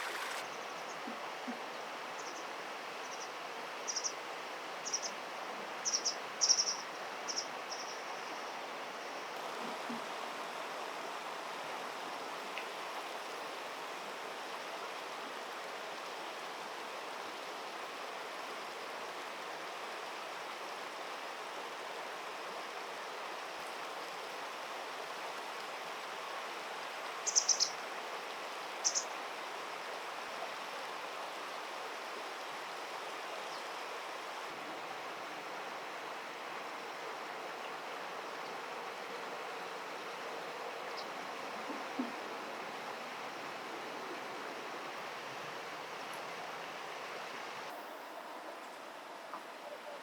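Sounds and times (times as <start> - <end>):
stream water flowing: 0.0 - 0.5, 8.7 - 49.4.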